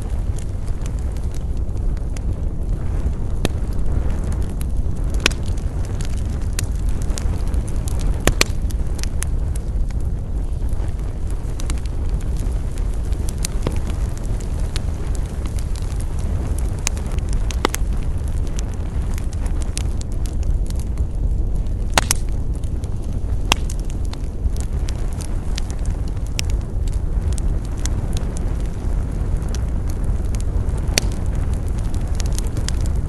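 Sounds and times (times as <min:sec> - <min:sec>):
campfire crackles and pops: 0:00.0 - 0:33.0
steady low rumble: 0:00.0 - 0:33.0.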